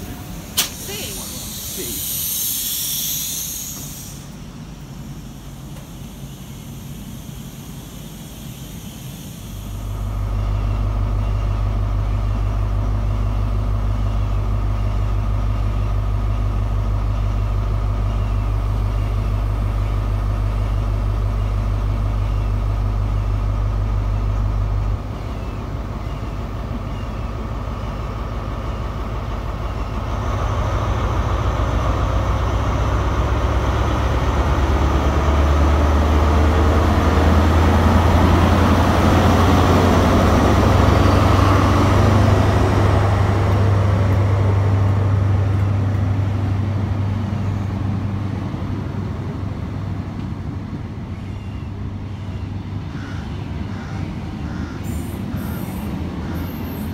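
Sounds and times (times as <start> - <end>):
diesel train engine humming: 0.0 - 56.9.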